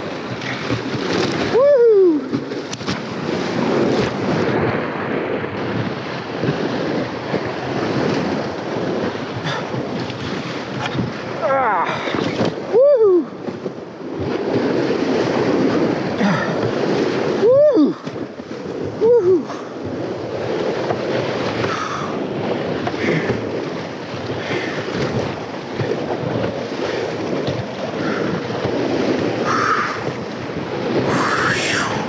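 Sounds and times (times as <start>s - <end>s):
whitewater rushing and splashing: 0.0s - 32.0s
wind buffeting microphone: 0.0s - 32.0s.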